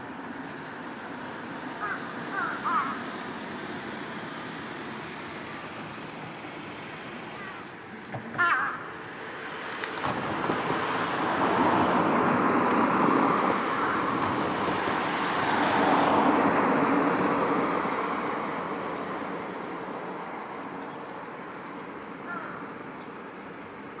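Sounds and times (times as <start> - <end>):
vehicle passing: 0.6 - 21.3.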